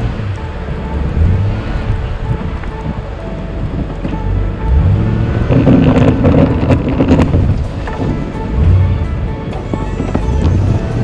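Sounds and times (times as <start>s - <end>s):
faint background music: 0.0s - 11.0s
truck engine rumble: 0.0s - 11.0s.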